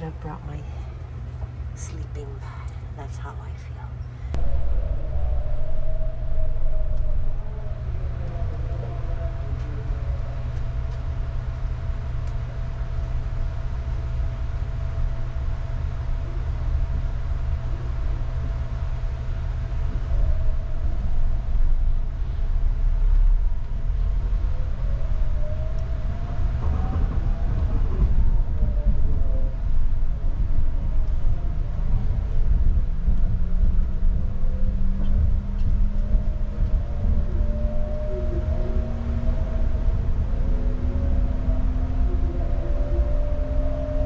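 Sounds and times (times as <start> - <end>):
train low rumble: 0.0 - 44.0
train motor whine rising: 4.4 - 44.0.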